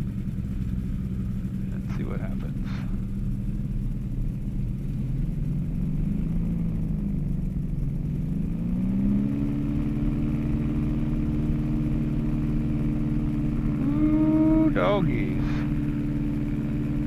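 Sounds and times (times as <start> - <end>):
small aircraft engine droning: 0.0 - 17.0.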